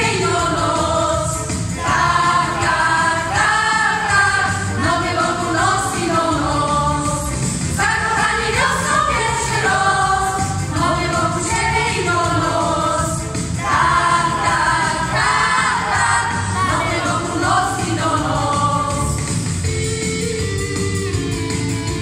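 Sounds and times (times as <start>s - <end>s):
choir singing in chorus: 0.0s - 19.3s
low musical accompaniment: 0.0s - 22.0s.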